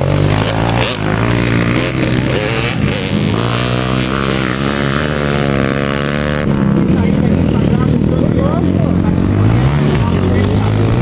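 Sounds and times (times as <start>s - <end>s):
motocross engines revving: 0.0s - 11.0s.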